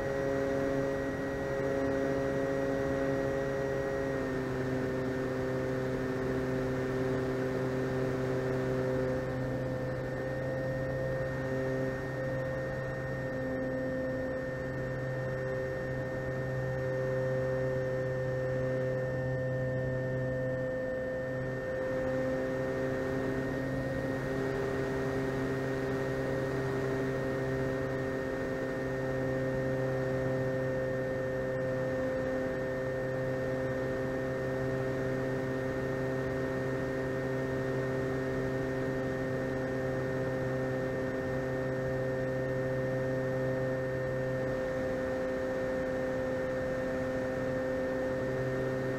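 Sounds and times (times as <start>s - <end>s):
model plane motor humming: 0.0s - 48.9s.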